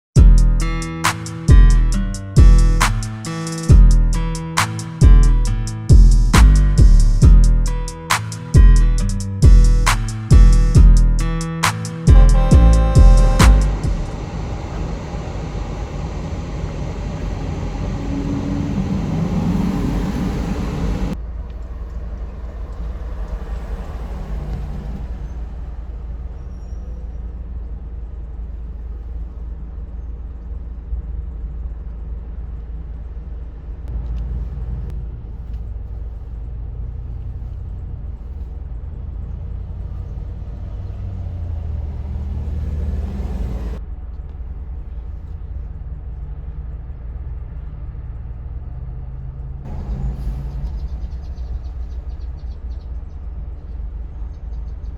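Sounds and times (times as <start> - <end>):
garbage truck diesel engines: 0.2 - 54.9
low engine rumble: 0.2 - 54.9.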